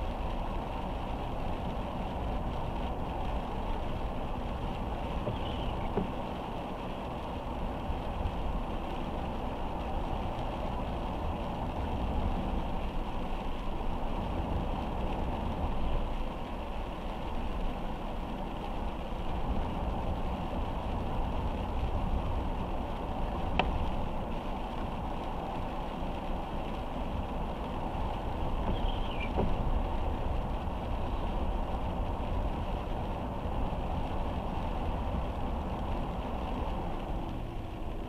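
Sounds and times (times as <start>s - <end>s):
rain hiss: 0.0s - 38.0s
road and tyre rumble: 0.0s - 38.0s.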